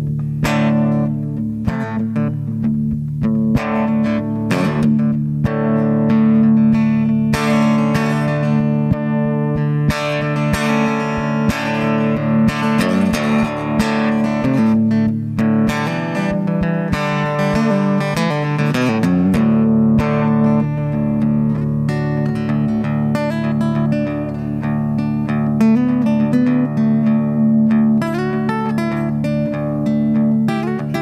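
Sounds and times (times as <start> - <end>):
electric guitar chords ringing: 0.0 - 31.0.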